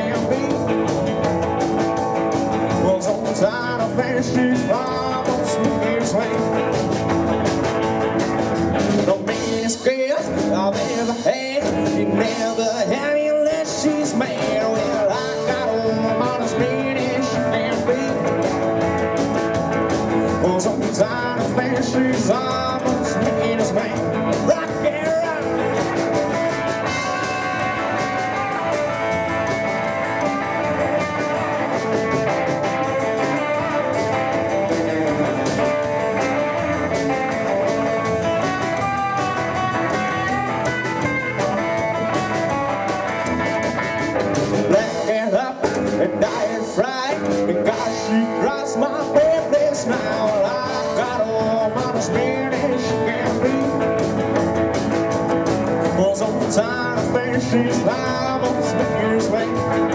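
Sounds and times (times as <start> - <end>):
drums: 0.0 - 59.9
electric guitar lead: 0.0 - 59.9
rhythm guitar: 0.0 - 59.9
upright double bass: 0.0 - 59.9.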